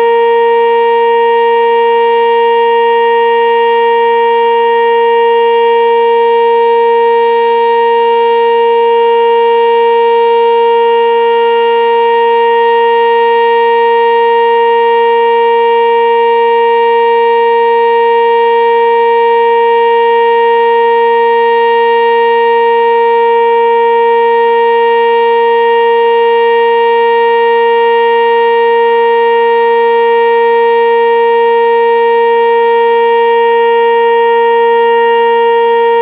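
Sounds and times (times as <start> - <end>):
two-tone warning siren: 0.0 - 36.0.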